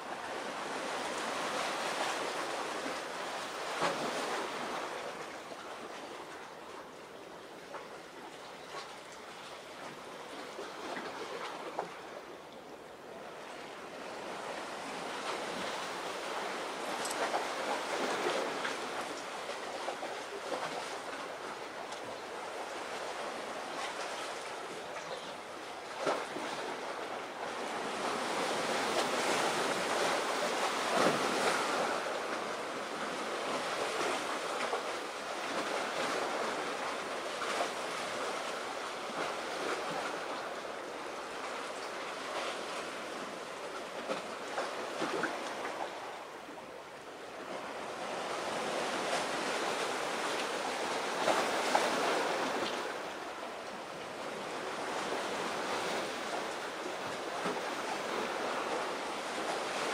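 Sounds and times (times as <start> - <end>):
sea surf washing on shore: 0.0 - 59.9.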